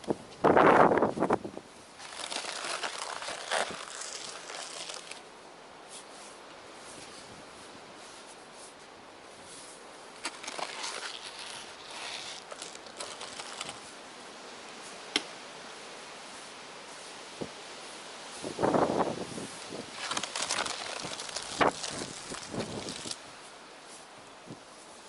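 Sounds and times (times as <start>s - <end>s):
snow crunching and scraping: 0.6s - 14.0s, 17.8s - 25.0s.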